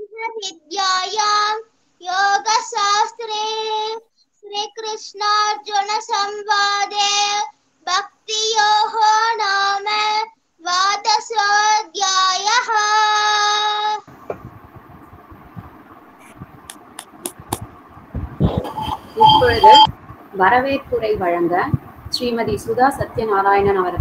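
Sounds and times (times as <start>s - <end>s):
boy chanting prayer verses: 0.0s - 14.4s, 18.4s - 24.0s.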